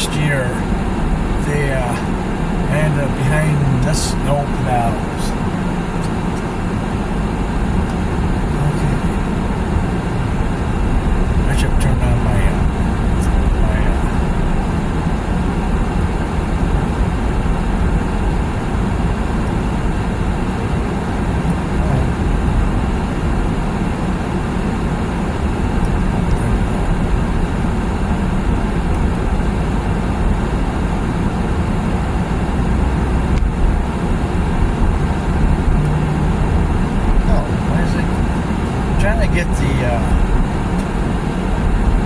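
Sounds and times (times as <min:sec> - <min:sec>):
car interior road drone: 0:00.0 - 0:42.0.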